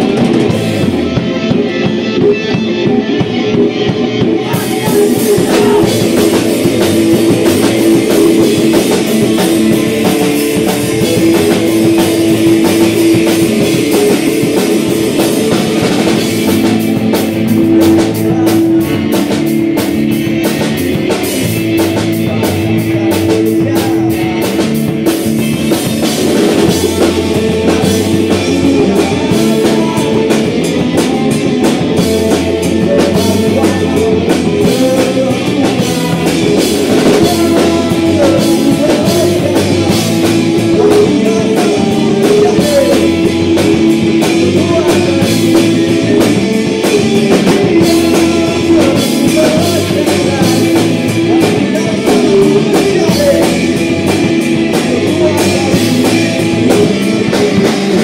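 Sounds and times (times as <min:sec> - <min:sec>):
bass guitar: 0:00.0 - 0:58.0
drum kit: 0:00.0 - 0:58.0
electric guitar: 0:00.0 - 0:58.0
person singing: 0:00.0 - 0:58.0.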